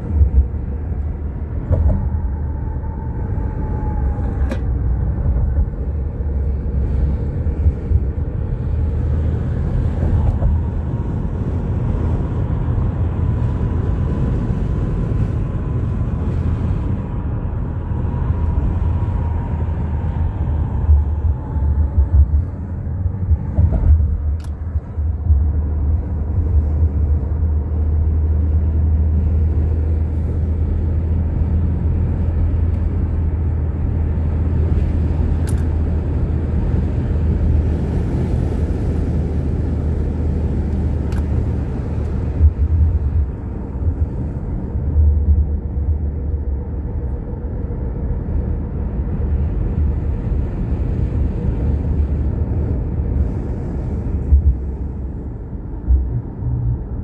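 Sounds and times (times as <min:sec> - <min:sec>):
tyres and engine rumbling: 0:00.0 - 0:57.0.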